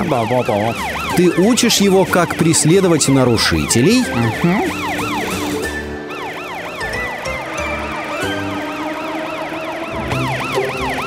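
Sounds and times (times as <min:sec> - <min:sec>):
background music: 0:00.0 - 0:11.0
police siren yelp: 0:00.0 - 0:11.0.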